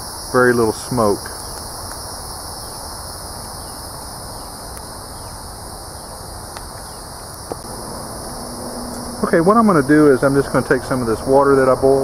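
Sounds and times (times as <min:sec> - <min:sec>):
fire crackling: 0:00.0 - 0:12.0
high insect chorus: 0:00.0 - 0:12.0.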